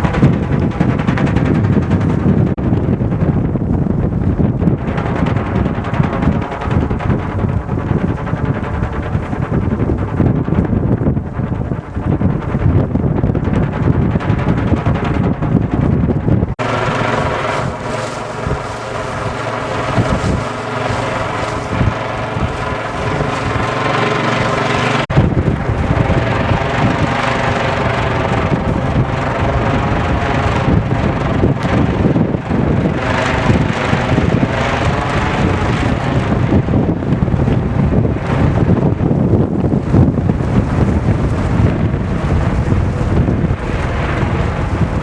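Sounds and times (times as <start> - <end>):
kite buzzing drone: 0.0 - 45.0
wind buffeting the microphone: 0.0 - 45.0.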